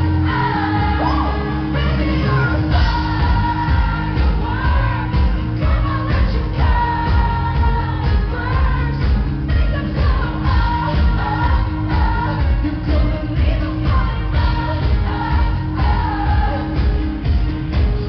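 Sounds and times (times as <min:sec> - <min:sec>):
amplified band: 0:00.0 - 0:18.0
bass beat: 0:00.0 - 0:18.0
woman singing live pop song: 0:00.0 - 0:18.0.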